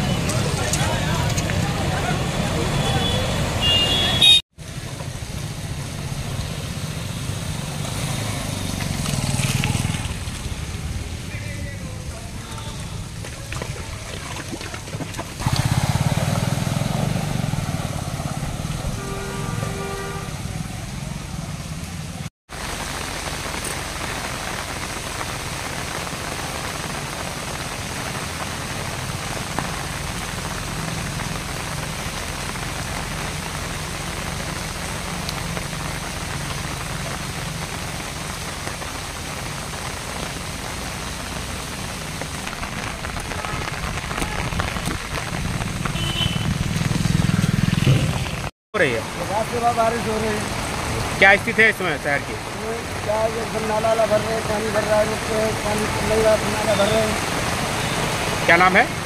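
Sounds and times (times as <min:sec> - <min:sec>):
rain on a flooded street: 0:00.0 - 0:59.0.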